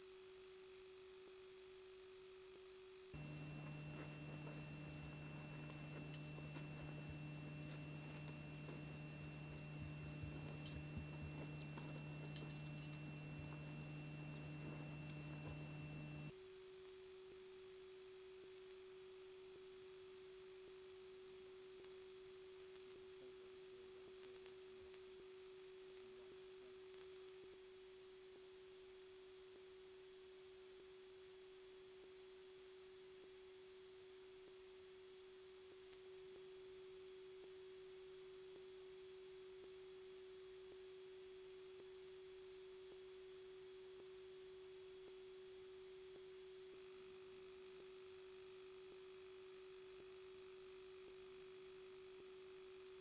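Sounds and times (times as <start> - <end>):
faint high-pitched whine: 0.0 - 53.0.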